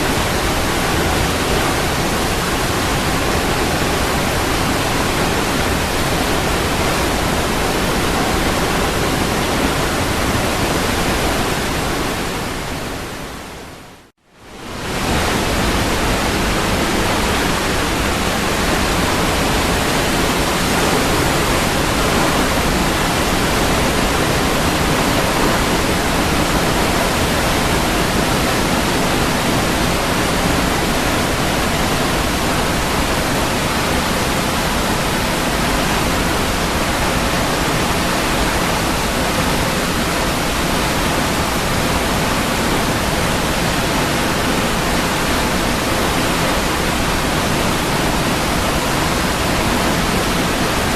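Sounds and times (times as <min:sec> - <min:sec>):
waterfall rushing and splashing: 0:00.0 - 0:50.9.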